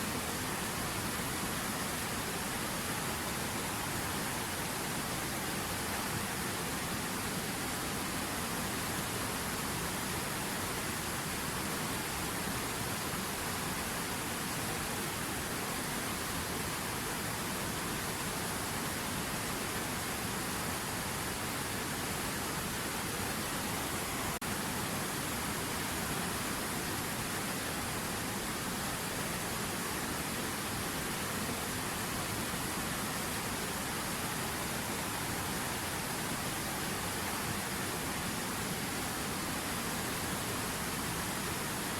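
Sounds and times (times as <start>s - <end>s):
river water rushing: 0.0s - 41.9s.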